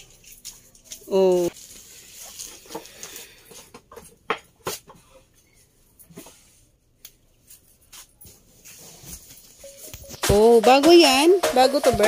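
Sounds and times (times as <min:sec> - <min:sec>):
furniture and boxes being handled: 0:00.0 - 0:11.2.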